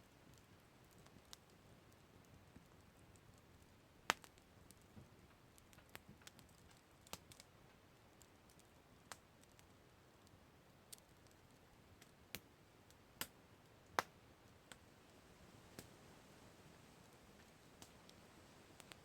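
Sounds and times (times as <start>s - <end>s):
campfire crackling: 0.0s - 19.0s
faint hiss: 0.0s - 19.0s.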